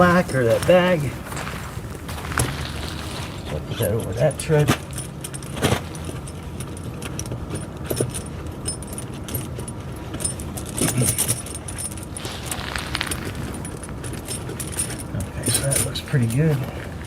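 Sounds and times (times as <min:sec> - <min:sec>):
chain links clinking on tire: 0:00.0 - 0:17.0.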